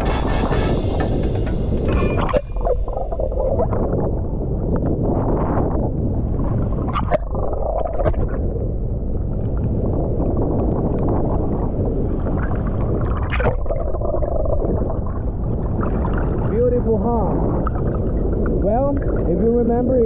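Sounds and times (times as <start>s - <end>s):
underwater rush and gurgle: 0.7s - 20.0s.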